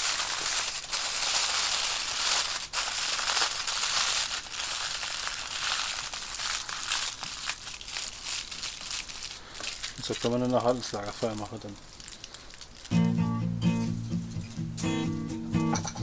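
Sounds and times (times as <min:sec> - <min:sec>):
aluminium foil crinkling: 0:00.0 - 0:14.2.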